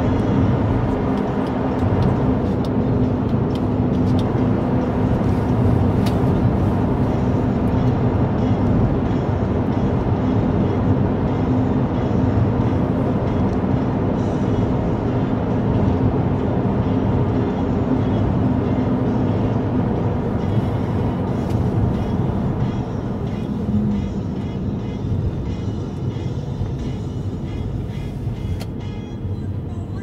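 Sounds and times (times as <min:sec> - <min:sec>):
car engine and tyre drone: 0:00.0 - 0:30.0.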